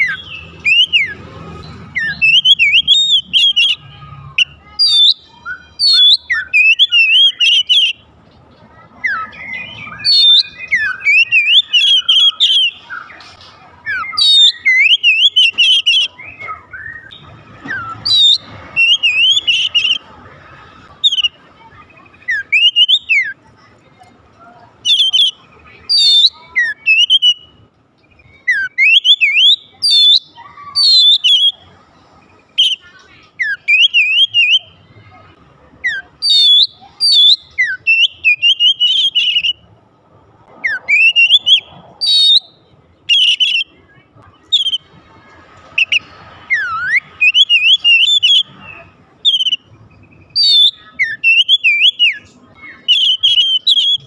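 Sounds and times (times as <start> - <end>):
songbird singing whistled phrases: 0.0 - 8.0, 8.8 - 13.2, 13.8 - 20.1, 21.0 - 23.4, 24.8 - 31.7, 32.4 - 34.8, 35.8 - 39.7, 40.6 - 44.9, 45.8 - 54.0.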